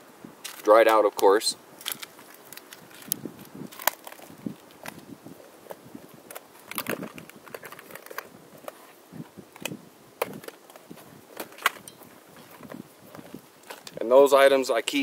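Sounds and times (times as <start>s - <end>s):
twig fire crackling: 0.0s - 15.0s.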